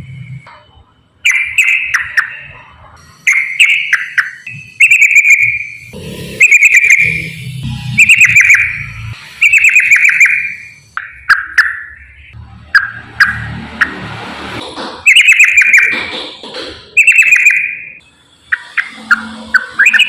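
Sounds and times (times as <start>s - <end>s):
bird singing rattling song: 1.2s - 7.4s, 8.0s - 14.0s, 15.0s - 16.2s, 16.8s - 20.0s.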